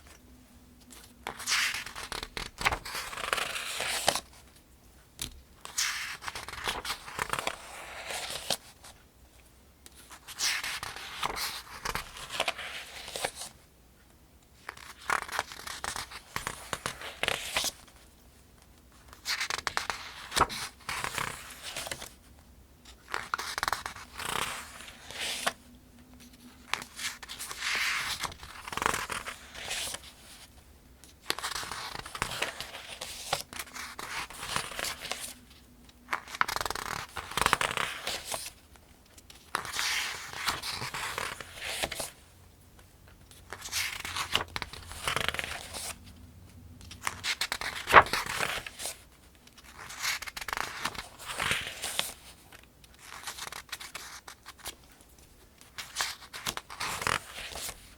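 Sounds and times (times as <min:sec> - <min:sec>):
paper pages turning: 0:00.9 - 0:04.4, 0:05.6 - 0:09.0, 0:10.0 - 0:13.6, 0:14.7 - 0:18.0, 0:19.1 - 0:22.2, 0:23.0 - 0:25.6, 0:26.2 - 0:30.5, 0:31.2 - 0:42.2, 0:43.3 - 0:55.0, 0:55.6 - 0:57.9.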